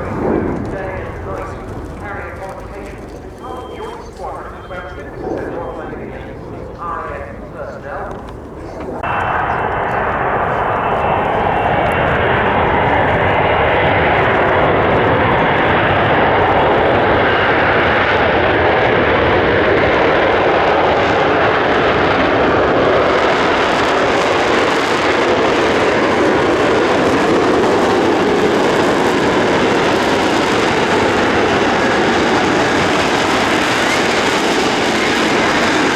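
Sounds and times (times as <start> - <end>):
jet engine roar: 0.0 - 35.9.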